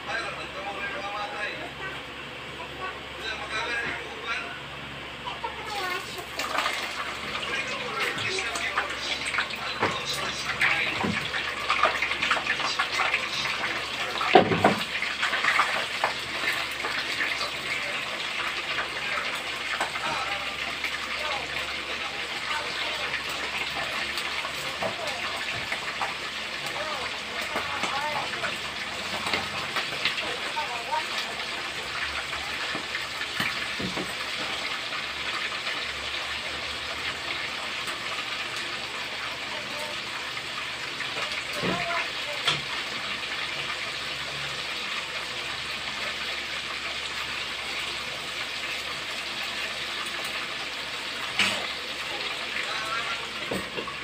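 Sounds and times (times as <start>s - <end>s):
fish sizzling in hot oil: 5.0s - 54.0s
faint oil crackles: 5.2s - 54.0s.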